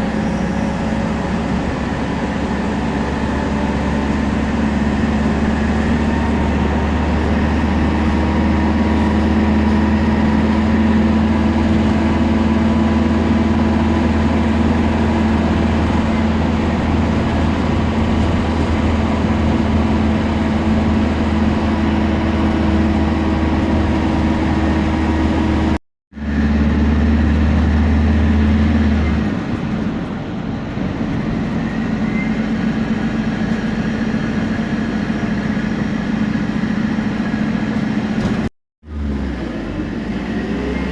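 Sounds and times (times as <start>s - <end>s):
bus engine droning: 0.0s - 40.9s.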